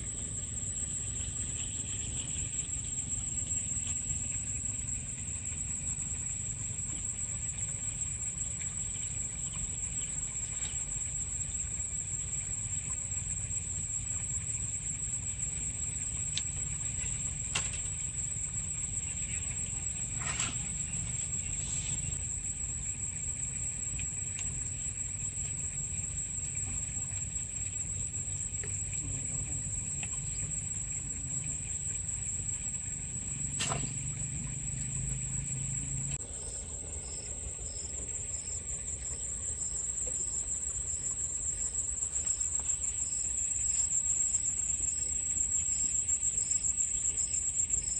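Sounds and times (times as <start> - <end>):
high insect whine: 0.0 - 47.9.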